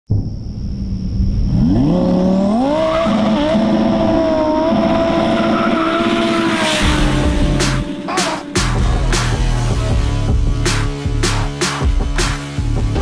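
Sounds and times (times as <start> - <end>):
sports car engine accelerating: 1.4 - 13.0.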